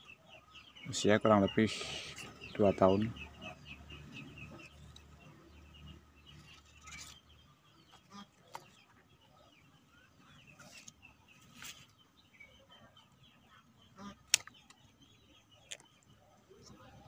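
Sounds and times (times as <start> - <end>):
faint bird chirps and clucks: 0.0 - 17.0.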